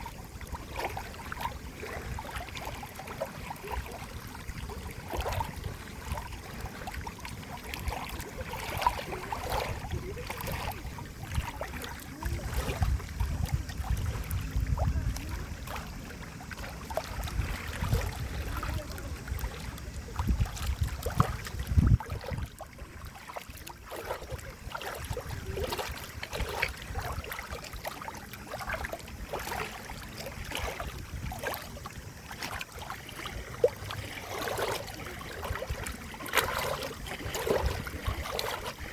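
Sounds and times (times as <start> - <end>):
small splashes and trickles: 0.0 - 38.9
water flowing and gurgling: 0.0 - 38.9.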